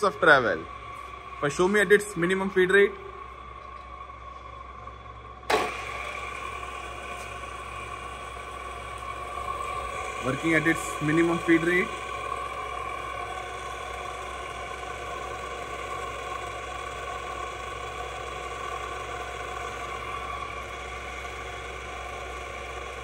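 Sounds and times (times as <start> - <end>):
drill motor humming and whining: 0.0 - 23.0.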